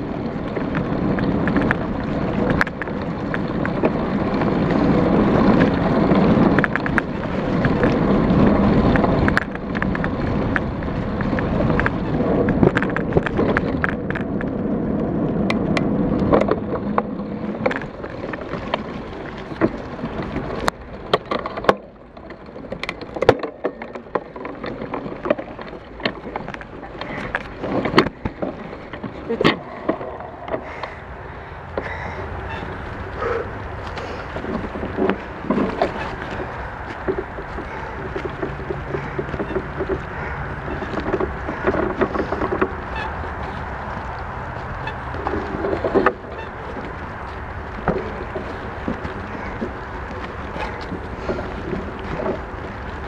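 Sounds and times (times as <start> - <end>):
bike rattling over rough ground: 0.0 - 53.0
tyre and wind noise: 0.0 - 53.0.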